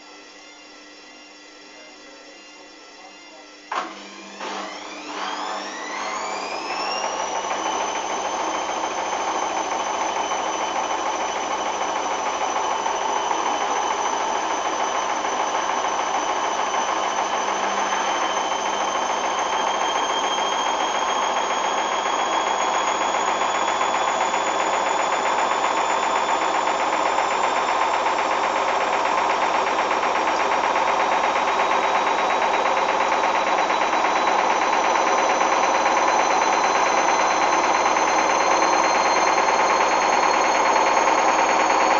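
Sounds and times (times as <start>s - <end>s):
washing machine motor whine: 0.0s - 41.9s.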